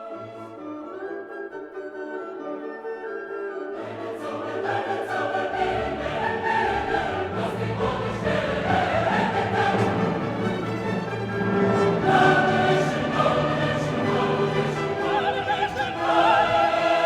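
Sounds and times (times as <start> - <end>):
choir singing: 0.0 - 1.4, 3.6 - 17.0
orchestral accompaniment: 0.0 - 17.0.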